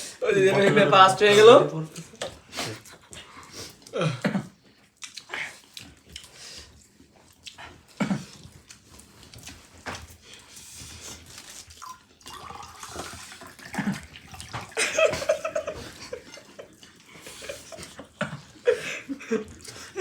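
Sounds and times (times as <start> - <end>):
people chewing wetly: 1.9 - 20.0.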